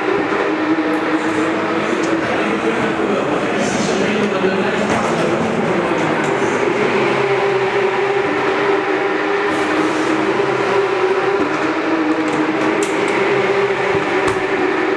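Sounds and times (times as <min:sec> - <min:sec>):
steady mechanical drone: 0:00.0 - 0:14.9.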